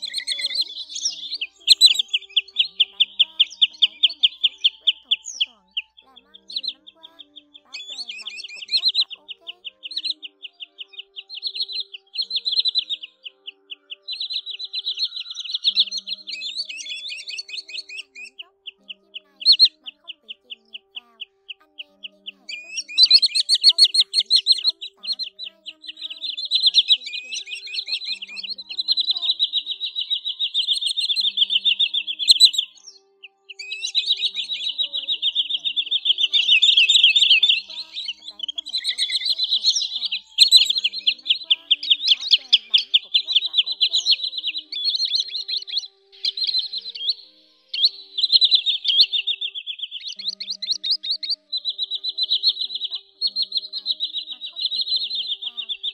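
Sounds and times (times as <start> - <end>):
sandpipers calling: 0.0 - 55.9.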